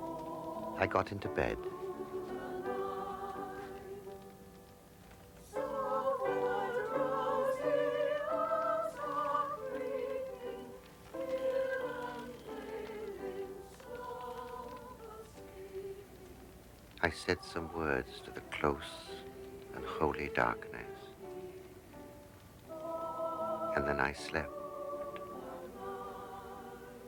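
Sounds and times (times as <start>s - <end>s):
classical singing with vibrato: 0.0s - 4.6s, 5.4s - 27.0s.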